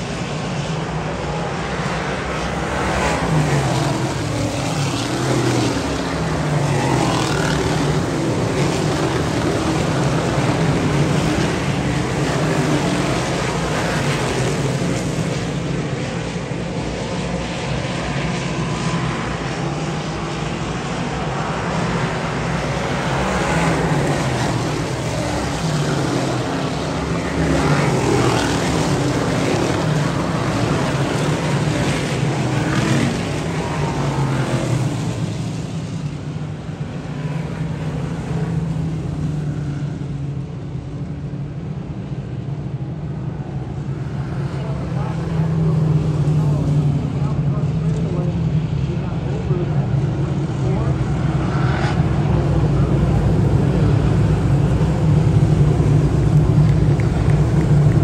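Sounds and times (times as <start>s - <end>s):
race car engines droning: 0.0s - 58.0s
race cars passing by: 0.0s - 58.0s.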